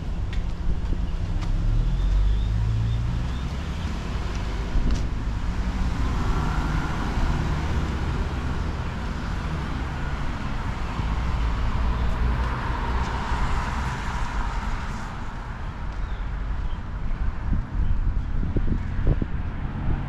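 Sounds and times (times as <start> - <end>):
cars passing on street: 0.0 - 20.0.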